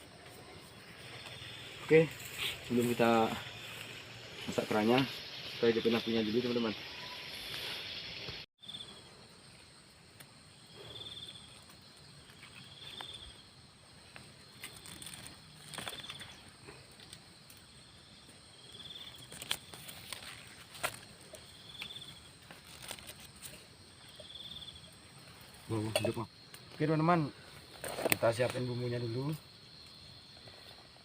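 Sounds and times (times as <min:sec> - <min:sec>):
faint outdoor ambience: 0:00.0 - 0:31.0
insect chirping: 0:00.0 - 0:31.0.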